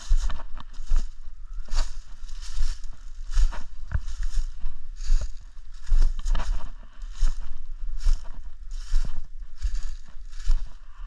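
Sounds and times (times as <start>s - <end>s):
footsteps crunching dry leaves: 0.0s - 11.0s
low rumble: 0.0s - 11.0s.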